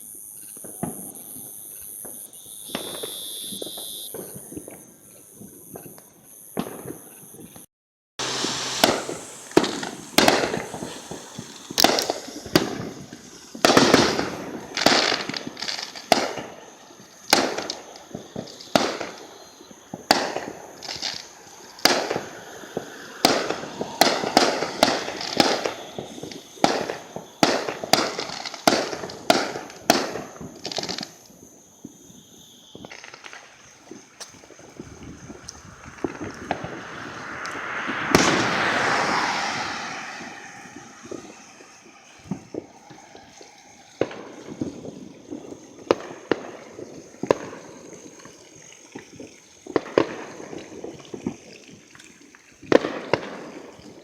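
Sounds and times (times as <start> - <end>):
firework explosions: 0.0 - 54.0.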